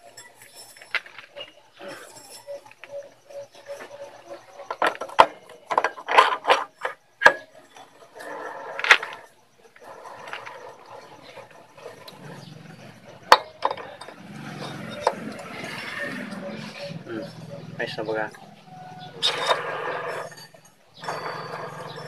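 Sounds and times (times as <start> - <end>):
metal parts clicking and scraping: 0.0 - 22.0
metal rattling and rubbing: 0.0 - 22.0.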